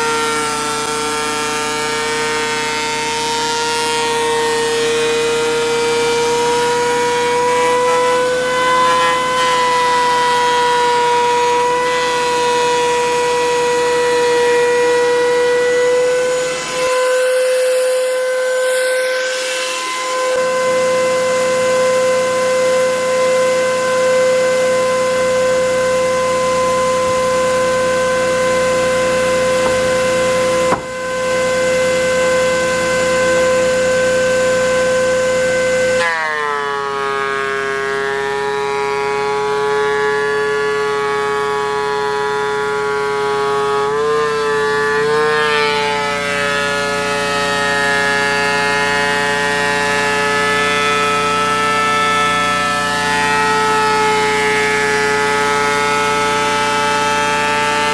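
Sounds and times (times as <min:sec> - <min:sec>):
thickness planer whining: 0:00.0 - 0:57.9.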